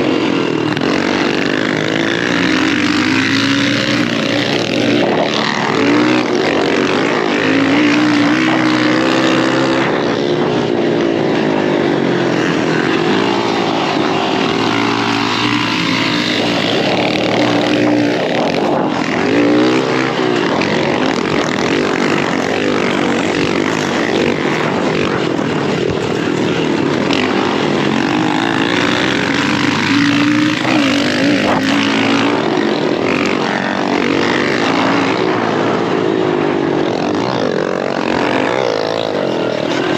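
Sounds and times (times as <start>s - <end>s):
constant rushing noise: 0.0s - 39.9s
dirt bike engine revving: 0.0s - 39.9s.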